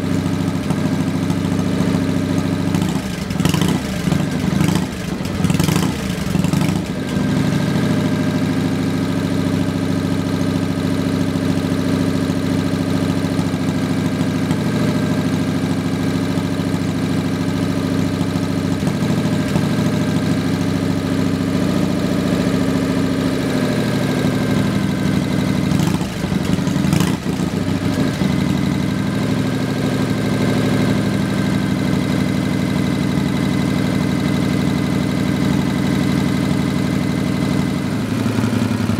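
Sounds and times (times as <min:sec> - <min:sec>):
motorcycle idling: 0:00.0 - 0:38.9.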